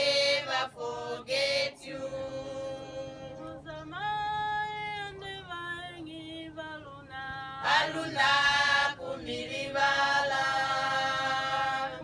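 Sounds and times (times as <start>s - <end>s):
voices singing unaccompanied: 0.0s - 12.0s.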